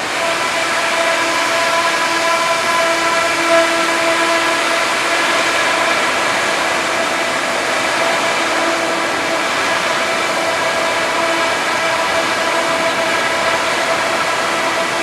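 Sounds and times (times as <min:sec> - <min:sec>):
cnc machine milling: 0:00.0 - 0:15.0.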